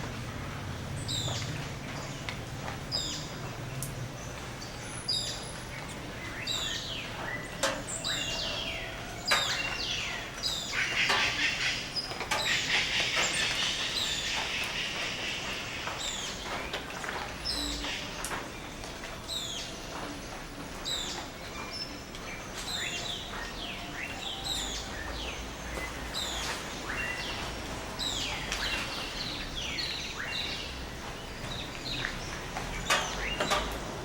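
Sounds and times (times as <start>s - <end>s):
bird chorus: 0.1s - 34.0s
birds chattering: 0.2s - 34.0s.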